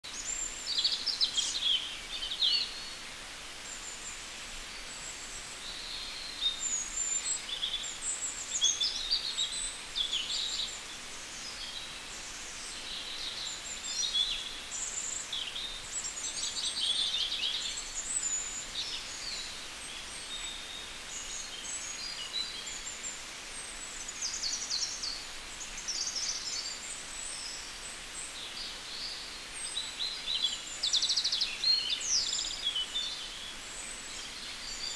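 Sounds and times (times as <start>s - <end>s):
faint background noise: 0.0s - 34.9s
small birds chirping: 0.0s - 34.9s.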